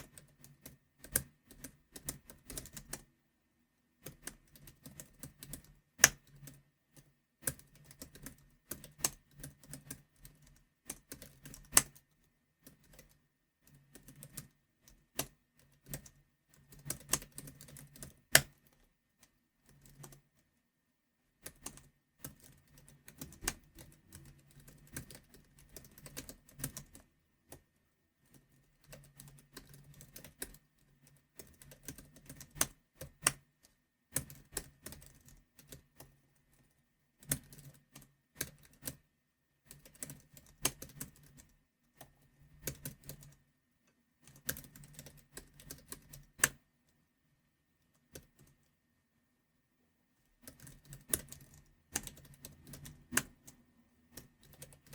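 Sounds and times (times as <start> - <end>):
keyboard typing: 0.0 - 3.1, 4.0 - 20.4, 21.4 - 43.4, 44.2 - 46.6, 48.0 - 48.7, 50.4 - 54.9.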